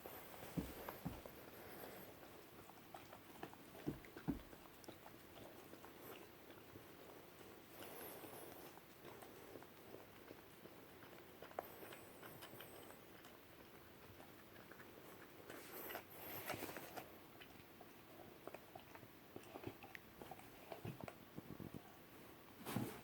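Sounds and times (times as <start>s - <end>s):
puppy licking and lapping: 0.4s - 22.4s.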